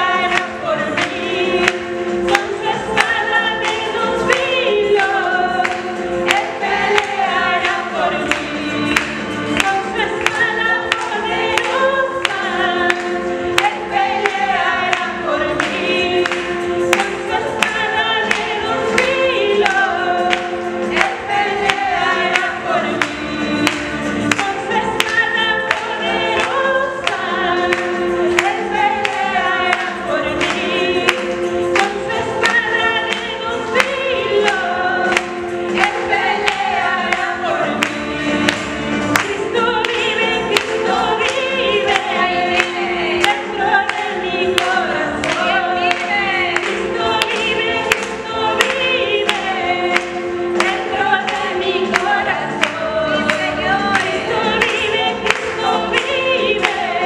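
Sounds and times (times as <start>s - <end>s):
women singing gospel song: 0.0s - 57.0s.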